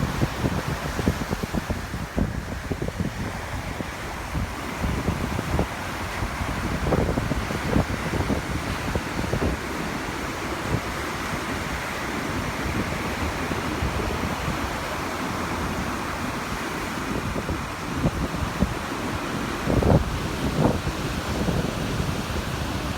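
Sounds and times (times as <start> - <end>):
surf washing onto beach: 0.0 - 22.9
wind gusts buffeting microphone: 0.0 - 22.9.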